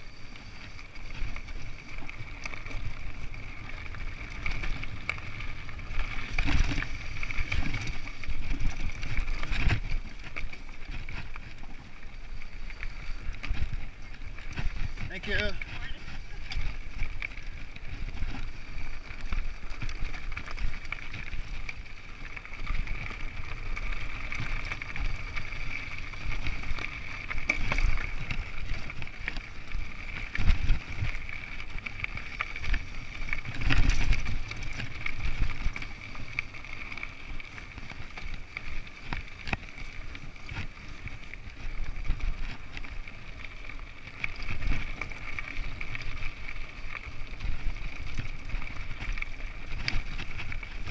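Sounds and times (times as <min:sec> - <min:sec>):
bike jolts: 0:00.0 - 0:50.9
bike rolling and rattling: 0:00.0 - 0:50.9.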